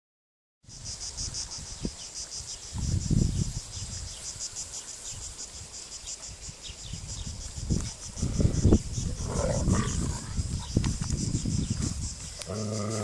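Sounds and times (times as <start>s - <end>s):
insects chirping: 0.6s - 13.0s.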